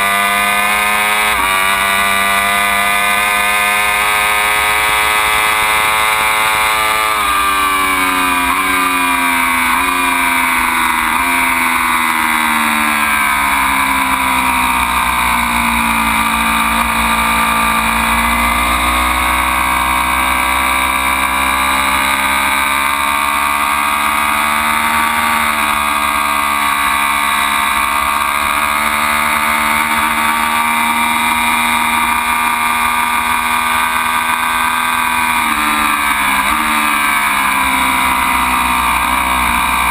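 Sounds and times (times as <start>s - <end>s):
motorcycle engine revving and downshifting: 0.0s - 39.9s.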